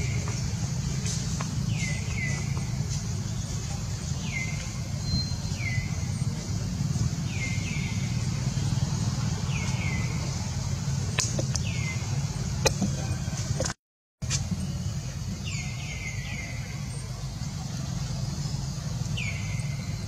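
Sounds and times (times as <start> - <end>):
bird chirping: 0.0 - 13.4, 14.5 - 20.0.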